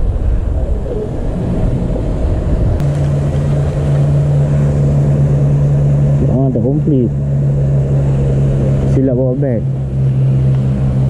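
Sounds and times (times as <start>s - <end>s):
low hum: 0.0s - 11.0s
wind buffeting microphone: 0.0s - 11.0s.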